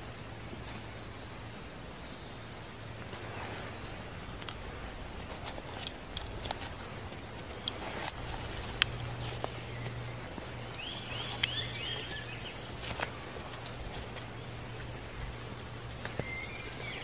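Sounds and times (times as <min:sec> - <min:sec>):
birds calling: 0:00.0 - 0:17.0
steady outdoor hiss: 0:00.0 - 0:17.0.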